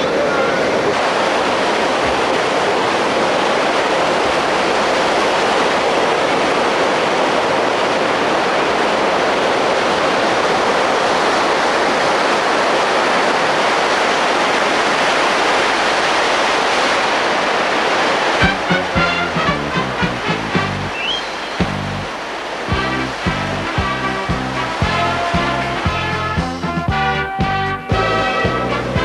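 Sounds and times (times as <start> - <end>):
water rushing past ship: 0.0 - 29.0
wind: 0.0 - 29.0.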